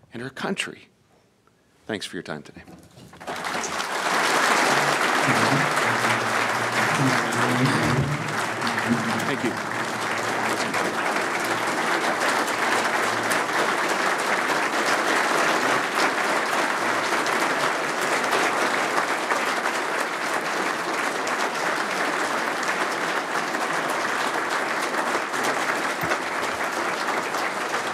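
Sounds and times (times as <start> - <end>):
audience applauding: 2.7 - 27.9.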